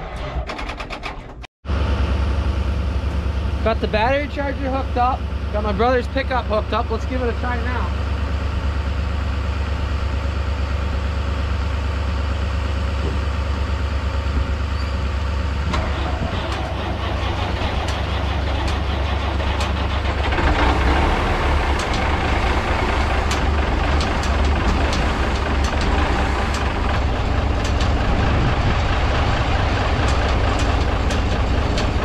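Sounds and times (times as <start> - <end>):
truck engine cranking and starting: 0.0 - 32.0
engine idling: 0.2 - 32.0.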